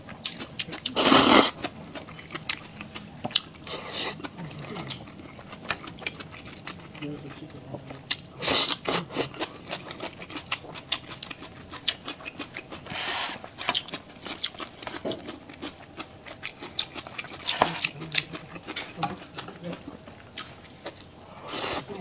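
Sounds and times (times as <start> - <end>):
wet chewing and mouth clicks: 0.0 - 22.0.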